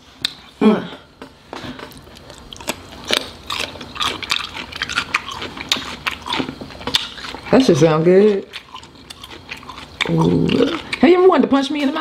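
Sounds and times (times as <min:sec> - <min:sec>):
person chewing food: 0:00.0 - 0:11.2.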